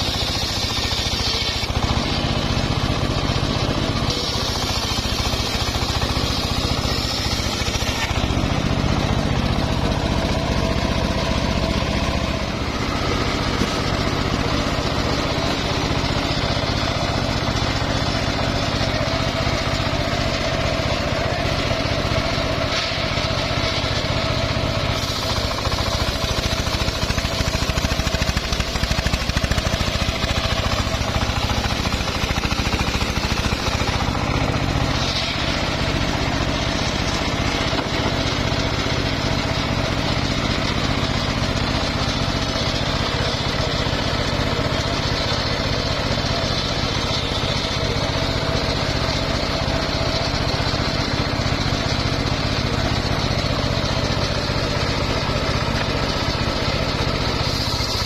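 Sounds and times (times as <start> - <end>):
engine drone: 0.0 - 58.0
sawmill blade sawing log: 0.0 - 58.0.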